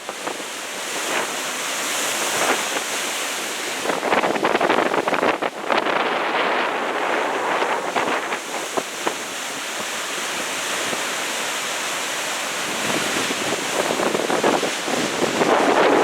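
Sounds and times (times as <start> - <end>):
wind buffeting microphone: 0.0 - 11.4, 12.6 - 16.0
ocean surf breaking: 0.0 - 16.0.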